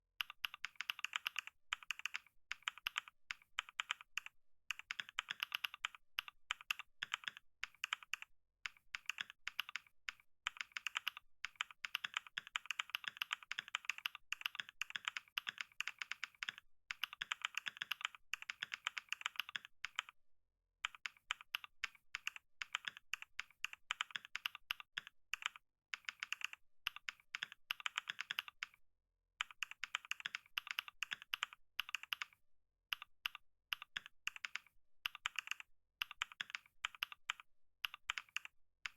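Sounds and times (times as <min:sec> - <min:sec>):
keyboard typing: 0:00.2 - 0:20.2, 0:20.8 - 0:28.8, 0:29.4 - 0:38.9.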